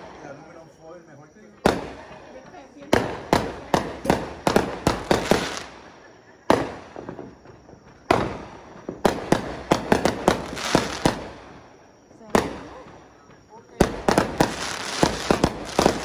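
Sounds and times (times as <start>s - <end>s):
fireworks bangs: 1.6s - 16.0s.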